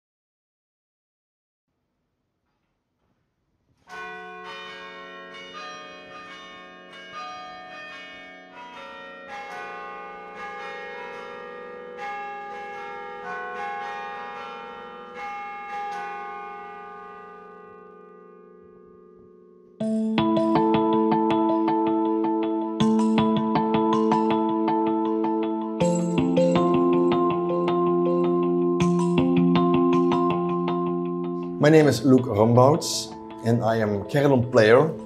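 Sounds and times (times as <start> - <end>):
carillon bells playing a tune: 3.9 - 18.6, 19.8 - 35.0.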